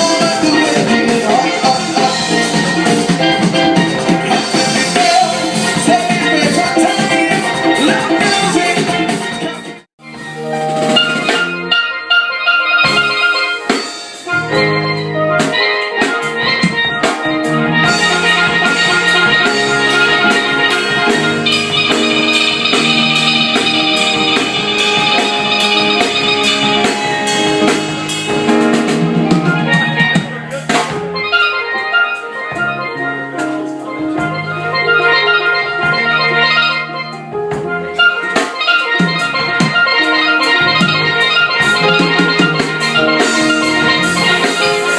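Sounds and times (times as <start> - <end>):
drum kit beat: 0.0 - 44.9
steel pans playing a melody: 0.0 - 44.9.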